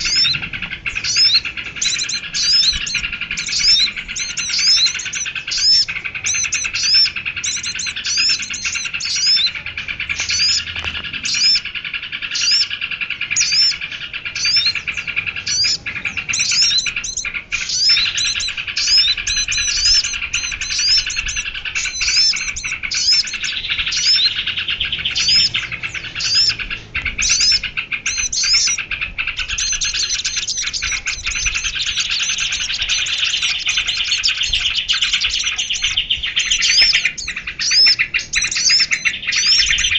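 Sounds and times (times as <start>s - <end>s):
sharp high bird chirps: 0.0s - 39.9s
trilling bird chatter: 0.0s - 39.9s.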